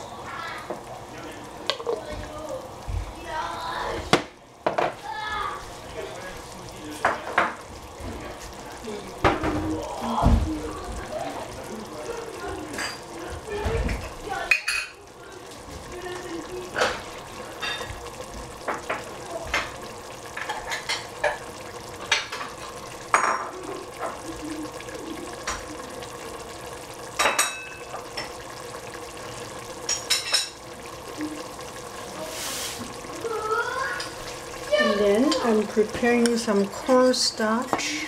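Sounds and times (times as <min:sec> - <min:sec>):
tofu sizzling in a pan: 0:00.0 - 0:38.0.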